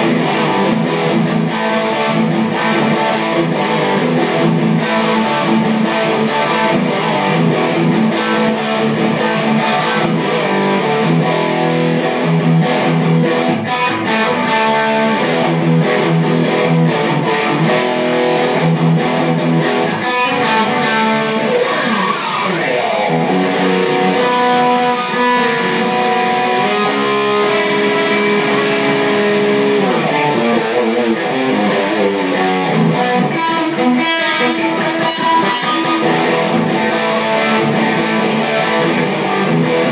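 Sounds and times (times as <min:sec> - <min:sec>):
electric guitar noodling: 0:00.0 - 0:39.9.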